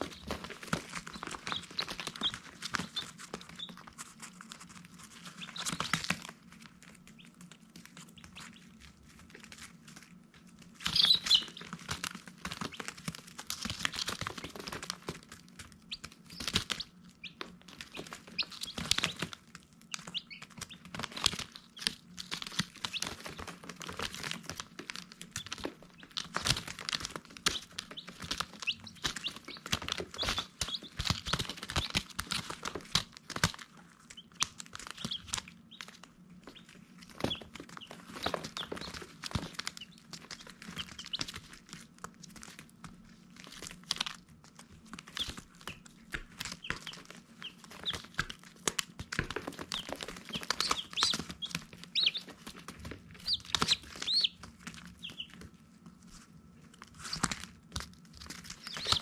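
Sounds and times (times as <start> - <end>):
chicks peeping: 0.0 - 42.7, 43.4 - 59.0.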